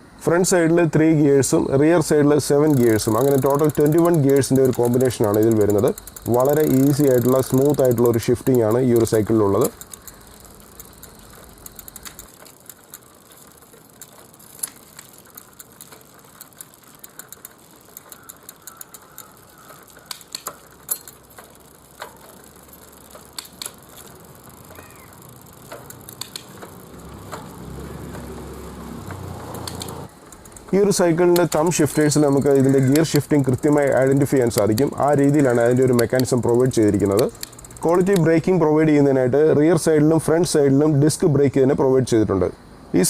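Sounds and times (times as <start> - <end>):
bicycle drivetrain ratcheting: 2.0 - 40.5
sharp clicks: 2.6 - 38.4.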